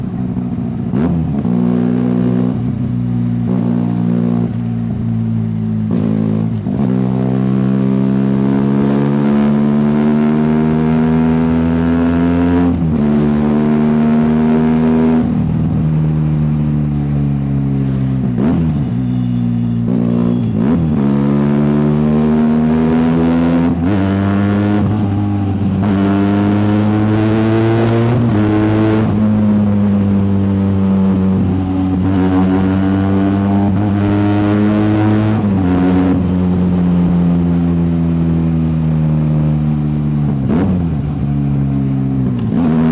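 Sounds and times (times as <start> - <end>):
motorcycle engine exhaust under load: 0.0 - 42.9.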